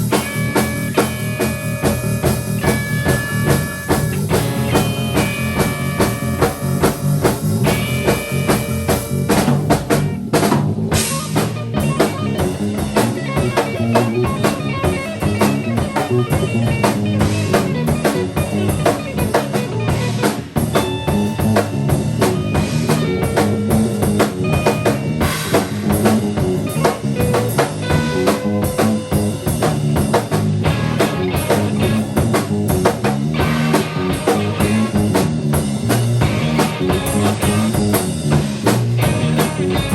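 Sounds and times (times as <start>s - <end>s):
drum kit playing: 0.0s - 39.9s
guitar: 0.0s - 39.9s.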